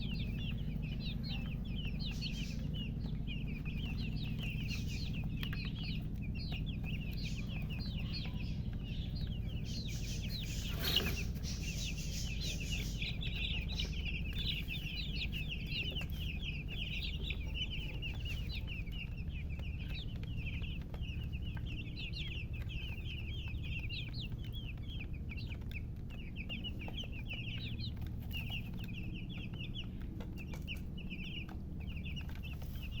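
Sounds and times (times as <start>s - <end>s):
chicks peeping: 0.0s - 33.0s
steady low hum: 0.0s - 33.0s.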